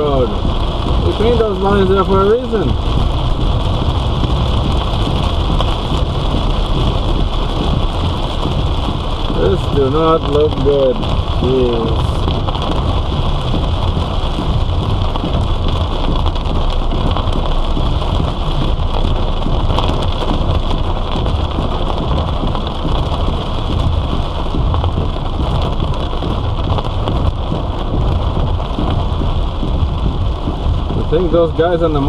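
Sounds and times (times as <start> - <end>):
heavy rain on a vehicle: 0.0 - 32.0
low road rumble: 0.0 - 32.0.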